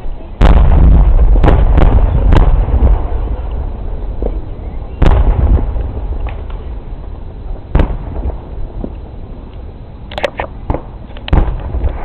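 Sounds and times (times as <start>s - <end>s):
crackling fireworks pops: 0.0s - 12.0s
low rolling rumble: 0.0s - 12.0s
fireworks boom: 0.4s - 9.5s, 10.4s - 12.0s.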